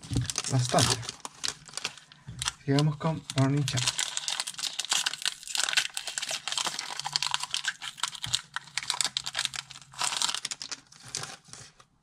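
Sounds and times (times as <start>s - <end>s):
foil wrapper crinkling: 0.0s - 11.8s.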